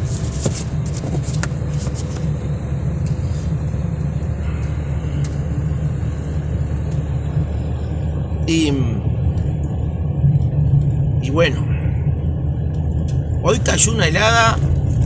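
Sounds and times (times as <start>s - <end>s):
car interior rumble: 0.0s - 15.0s.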